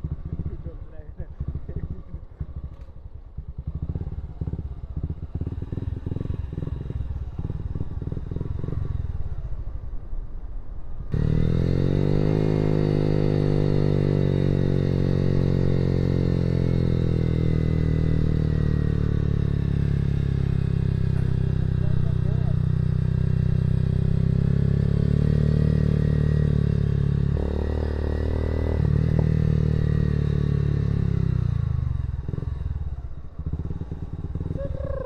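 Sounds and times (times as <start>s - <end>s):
motorcycle engine running: 0.0s - 9.5s, 11.1s - 35.0s.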